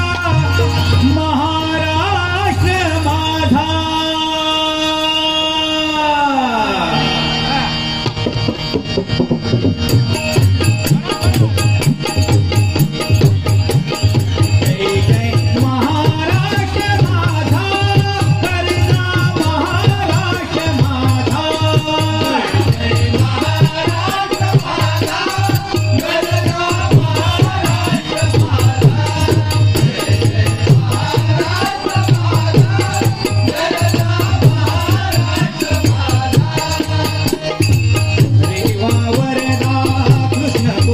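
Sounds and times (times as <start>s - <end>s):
jingling small percussion: 0.0s - 4.2s, 8.0s - 40.9s
voices singing devotional music: 0.0s - 40.9s
steady drum beat: 8.1s - 40.9s.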